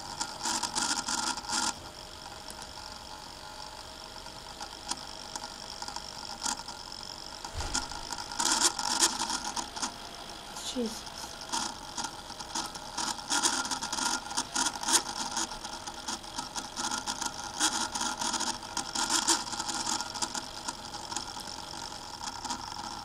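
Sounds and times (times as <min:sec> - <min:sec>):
laptop cooling fan whirring: 0:00.0 - 0:23.0.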